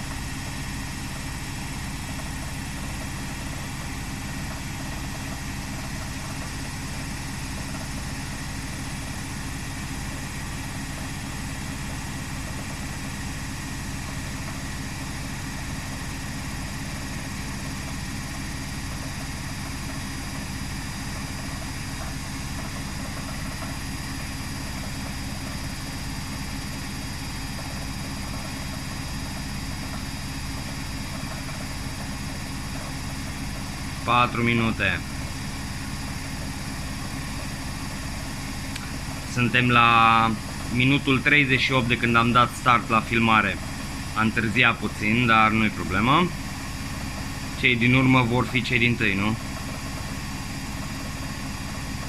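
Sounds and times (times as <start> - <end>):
washing machine spinning: 0.0 - 52.0.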